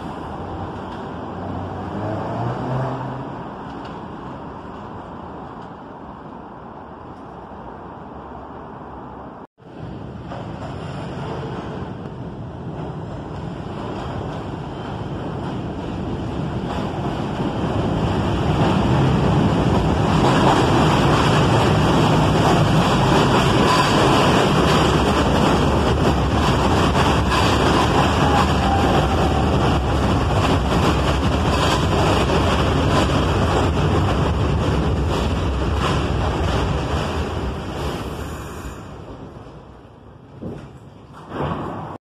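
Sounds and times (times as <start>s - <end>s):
subway train wheels rumbling: 0.0s - 42.0s.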